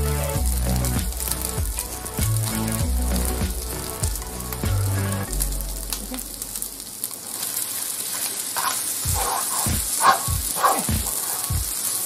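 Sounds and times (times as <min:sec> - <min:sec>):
rice sizzling in a frying pan: 0:00.0 - 0:12.0.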